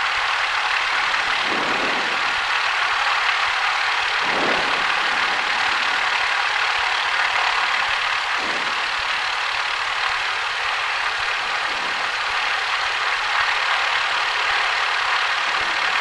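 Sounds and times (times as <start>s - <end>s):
aircraft engine idling in cabin: 0.0s - 16.0s.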